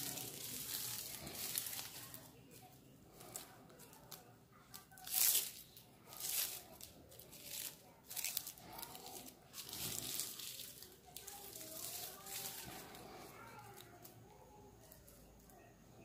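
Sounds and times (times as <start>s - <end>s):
plastic strips crinkling: 0.0s - 15.7s.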